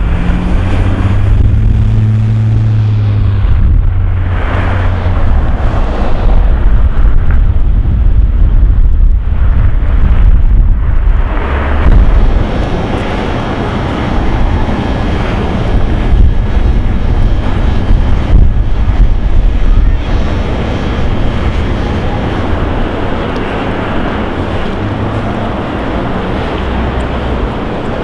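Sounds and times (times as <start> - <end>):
blizzard wind buffeting microphone: 0.0 - 28.0.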